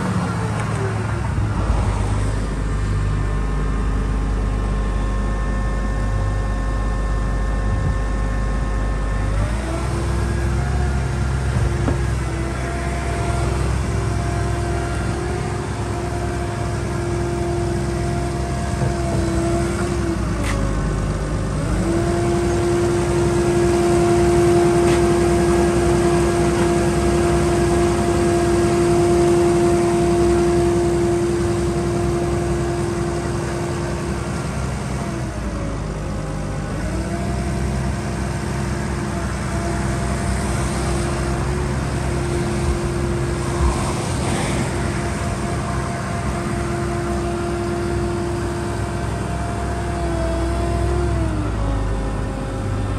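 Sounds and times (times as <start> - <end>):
diesel engine running: 0.0 - 52.9
strong steady whine: 0.0 - 52.9.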